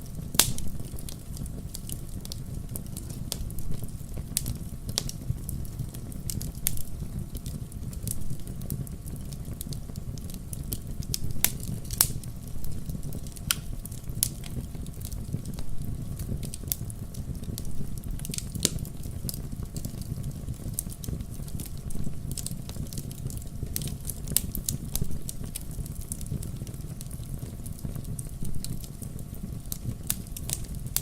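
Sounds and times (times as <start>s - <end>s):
fireplace fire crackling: 0.0s - 31.0s
low rumble of flames: 0.0s - 31.0s
sharp pops of fire: 0.0s - 31.0s.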